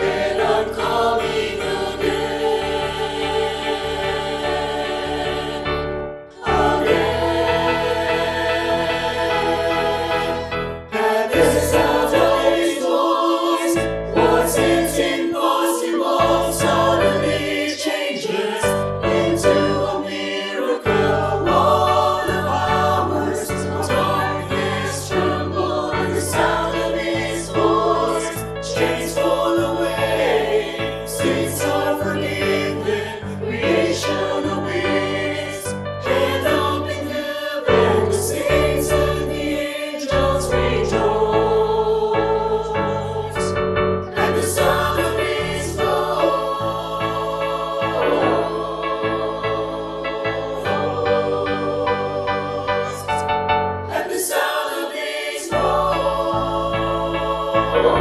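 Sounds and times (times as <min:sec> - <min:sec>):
choir singing in parts: 0:00.0 - 0:58.0.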